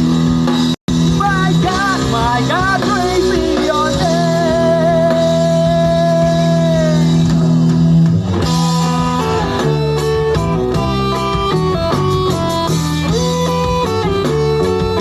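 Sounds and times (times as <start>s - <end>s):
electric guitar notes with vibrato: 0.0s - 15.0s
held bass notes: 0.0s - 15.0s.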